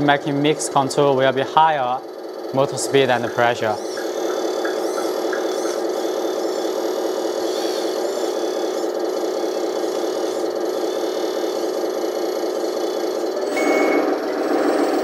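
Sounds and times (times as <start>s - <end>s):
electric hydraulic pump whirring: 0.0s - 15.0s
simulated diesel engine from small speaker: 0.0s - 15.0s.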